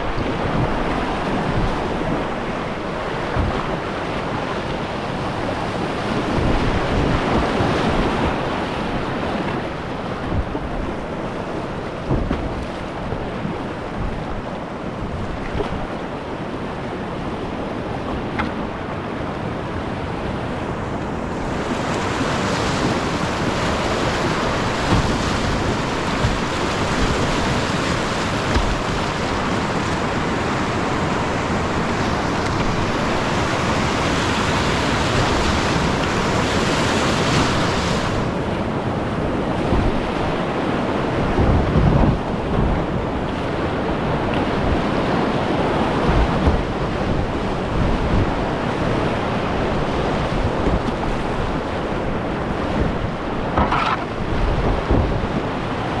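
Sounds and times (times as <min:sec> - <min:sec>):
rushing whitewater rapids: 0:00.0 - 0:56.0
wind rumbling on microphone: 0:00.0 - 0:56.0.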